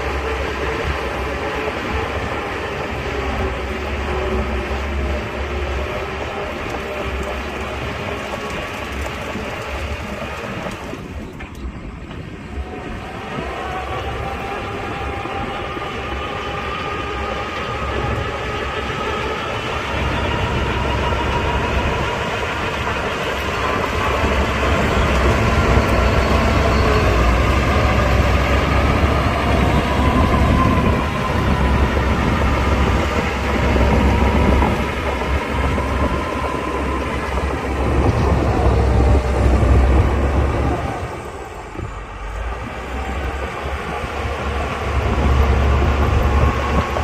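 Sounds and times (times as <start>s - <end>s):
bulldozer diesel engine: 0.0s - 47.0s
steel tracks clanking: 0.0s - 47.0s.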